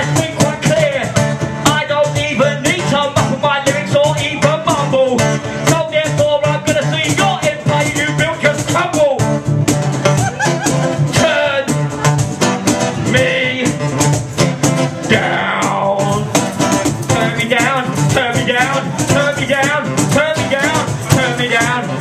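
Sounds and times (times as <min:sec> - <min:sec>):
person singing into a microphone: 0:00.0 - 0:09.2, 0:11.1 - 0:12.1, 0:12.9 - 0:14.0, 0:15.0 - 0:22.0
fast percussive clicking beat: 0:00.0 - 0:22.0
guitar playing: 0:00.0 - 0:22.0.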